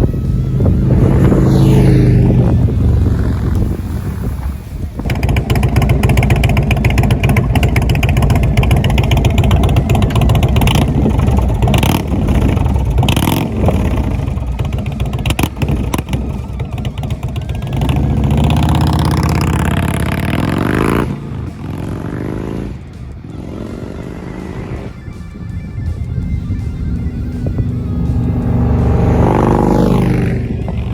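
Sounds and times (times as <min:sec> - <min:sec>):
motorcycle engine revving hard: 0:00.0 - 0:30.9.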